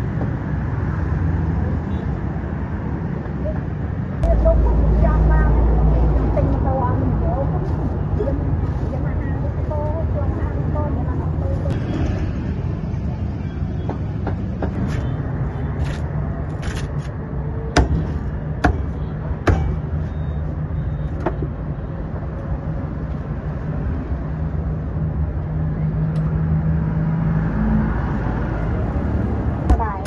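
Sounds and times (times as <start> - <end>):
street traffic hum: 0.0 - 30.0.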